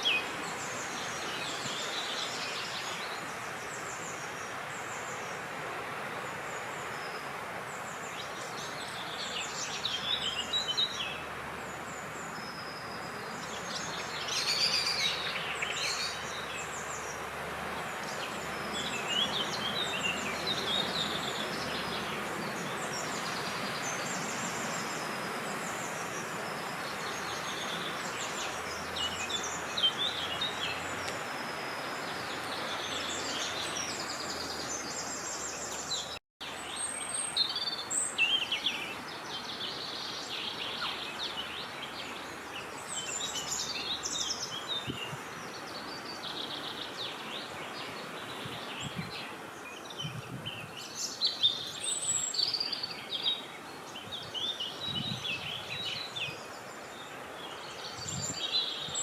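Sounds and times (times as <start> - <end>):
small birds singing: 0.0 - 59.0.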